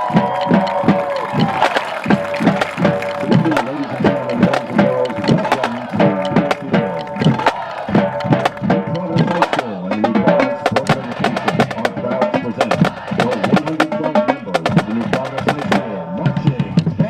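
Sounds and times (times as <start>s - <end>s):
snare drum strokes: 0.0s - 15.8s
marching band music: 0.0s - 17.0s.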